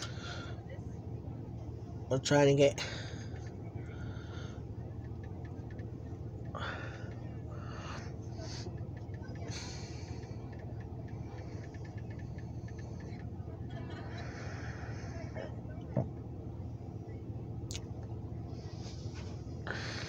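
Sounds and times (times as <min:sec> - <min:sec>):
diesel locomotive idling: 0:00.0 - 0:20.0
distant voices: 0:00.0 - 0:20.0.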